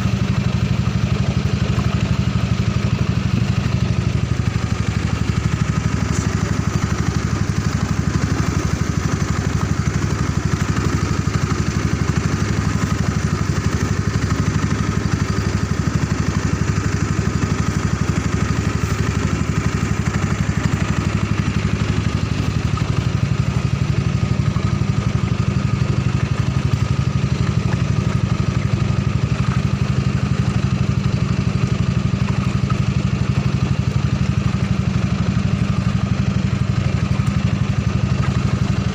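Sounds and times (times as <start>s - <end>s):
boat engine running steadily: 0.0s - 38.9s.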